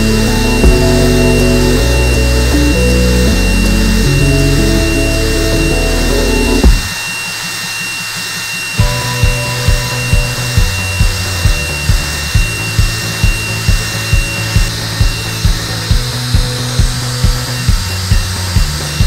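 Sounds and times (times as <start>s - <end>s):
background music with steady beat: 0.0s - 7.4s, 8.7s - 19.0s
router spindle high whine: 0.0s - 19.0s
rushing noise of cutting: 0.0s - 19.0s.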